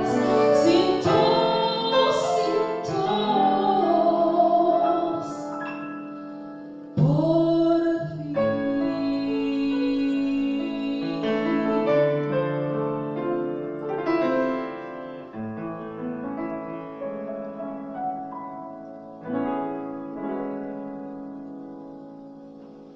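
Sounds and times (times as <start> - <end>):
slow piano chords and melody: 0.0 - 22.9.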